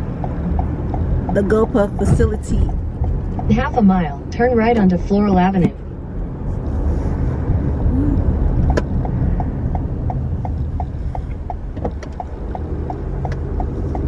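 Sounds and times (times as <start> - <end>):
turn signal ticking: 0.0 - 5.8, 7.4 - 14.0
road and engine rumble in car: 0.0 - 14.0.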